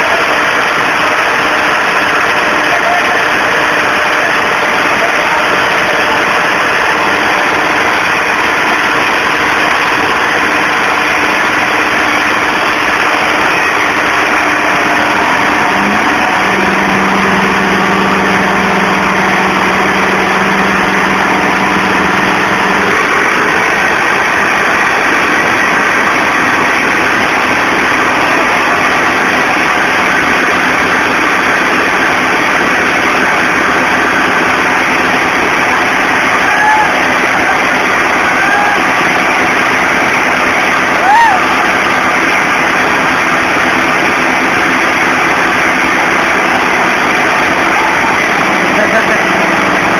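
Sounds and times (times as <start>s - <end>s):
tractor diesel engines under load: 0.0s - 49.9s.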